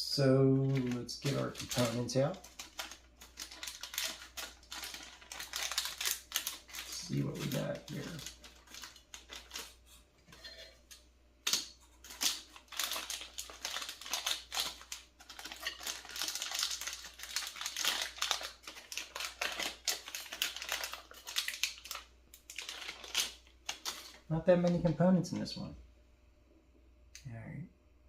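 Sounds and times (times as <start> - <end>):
plastic bags crinkling: 0.6 - 9.8, 11.4 - 25.6.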